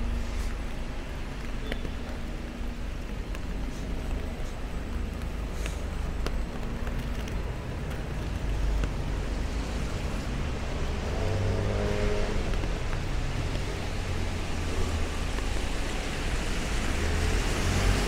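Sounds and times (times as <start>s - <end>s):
traffic on wet street: 0.0s - 18.0s.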